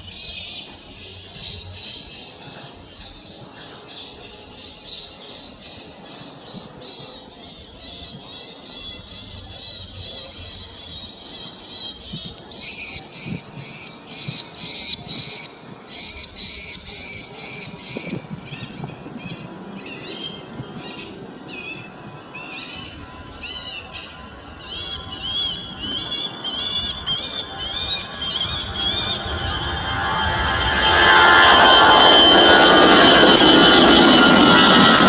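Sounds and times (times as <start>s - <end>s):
recorded bird calls over loudspeakers: 0.0s - 35.0s.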